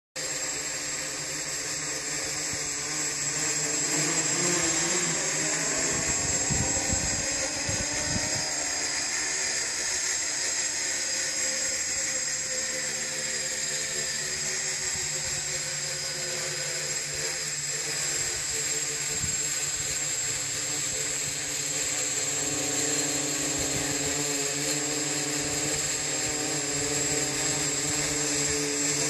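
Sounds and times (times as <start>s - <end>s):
drone propellers whining: 0.2s - 29.0s.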